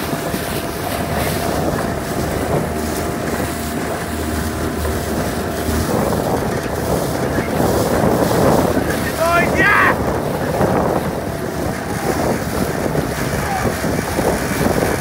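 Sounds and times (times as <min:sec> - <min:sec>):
outboard motor running: 0:00.0 - 0:15.0
wind on microphone: 0:00.0 - 0:15.0.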